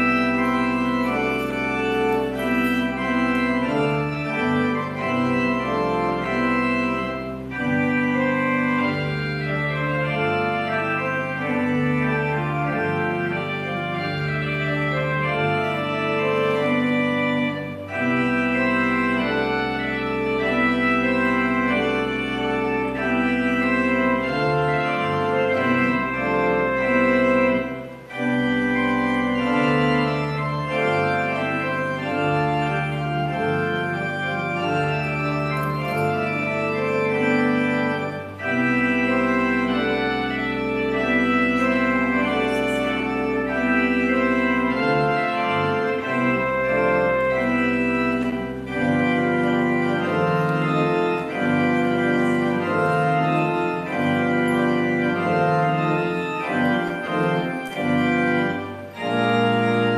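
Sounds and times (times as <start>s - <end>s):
organ music: 0.0s - 59.9s.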